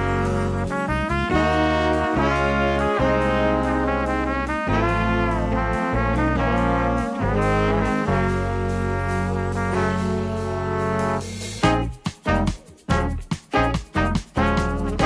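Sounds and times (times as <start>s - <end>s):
held bass notes: 0.0s - 15.0s
jazzy brass tune: 0.0s - 15.0s.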